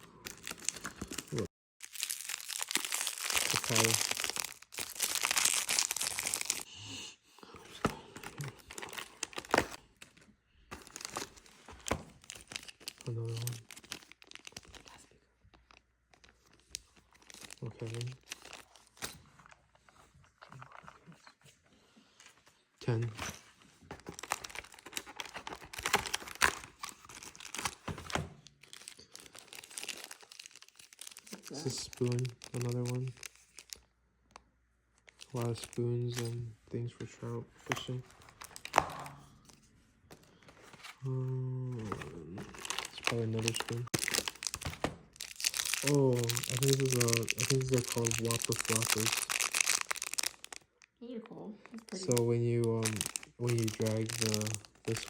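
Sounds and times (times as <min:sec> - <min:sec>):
packaging crinkling and tearing: 0:00.0 - 0:06.7, 0:07.7 - 0:21.4, 0:22.9 - 0:34.4, 0:35.0 - 0:36.5, 0:37.6 - 0:39.6, 0:40.4 - 0:50.9, 0:51.6 - 0:55.0.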